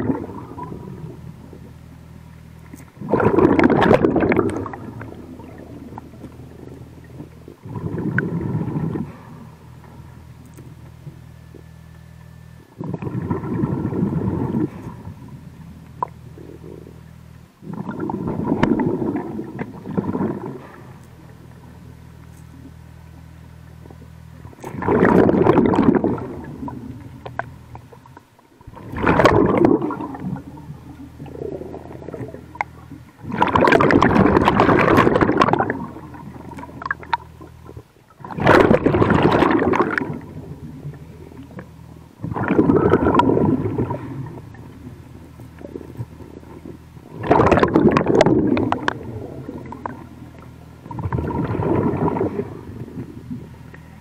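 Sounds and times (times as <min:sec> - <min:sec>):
exhaled air bubbling underwater: 0:00.0 - 0:54.0
steady low hum: 0:00.0 - 0:54.0.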